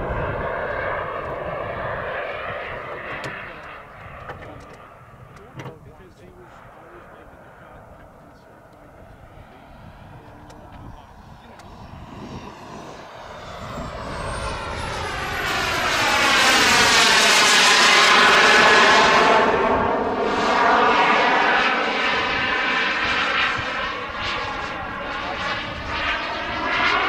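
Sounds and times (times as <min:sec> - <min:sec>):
jet turbine whine: 0:00.0 - 0:27.0.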